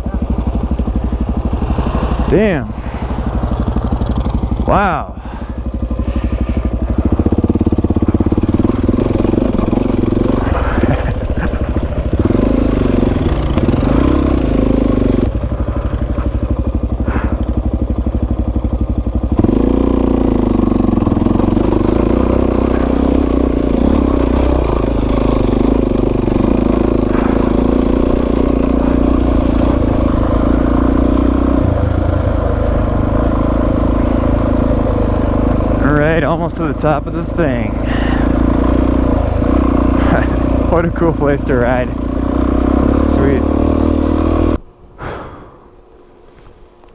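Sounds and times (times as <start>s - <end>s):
motorcycle engine under load: 0.0s - 46.9s.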